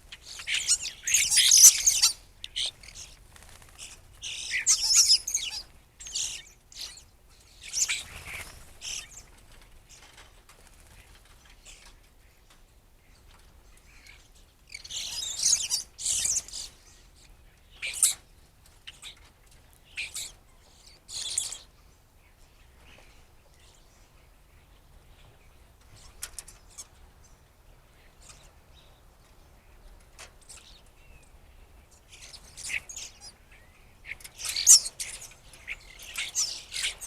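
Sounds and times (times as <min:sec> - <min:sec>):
blackbirds chirping: 0:00.0 - 0:37.0.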